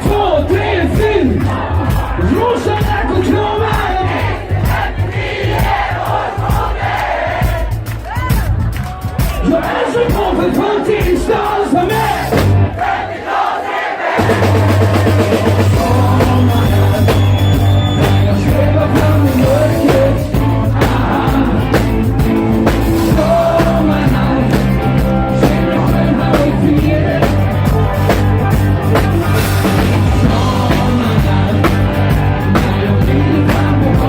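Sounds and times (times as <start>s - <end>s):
live dance band playing: 0.0s - 13.4s, 14.0s - 34.0s.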